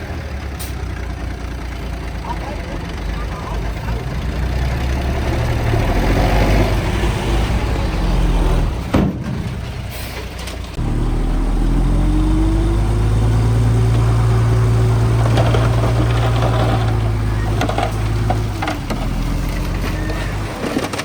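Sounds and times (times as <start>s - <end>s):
heavy diesel engine running: 0.0s - 8.9s, 9.5s - 21.0s.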